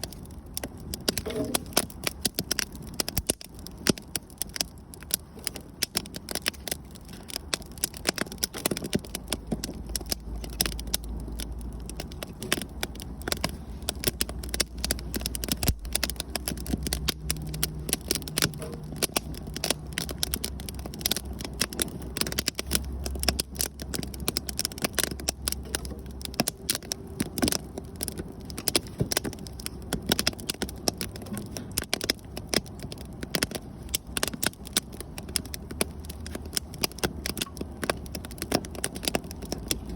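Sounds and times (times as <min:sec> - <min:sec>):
bonfire crackling and popping: 0:00.0 - 0:39.9
low steady rumble: 0:00.0 - 0:39.9.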